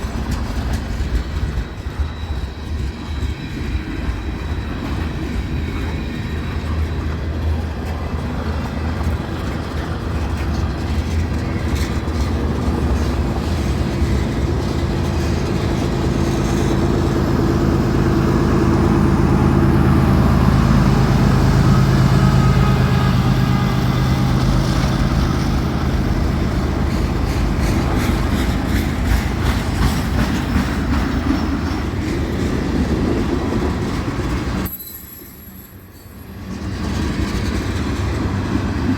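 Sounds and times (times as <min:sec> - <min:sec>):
diesel train engine drone: 0:00.0 - 0:38.9
train wheels clicking over rail joints: 0:00.0 - 0:38.9.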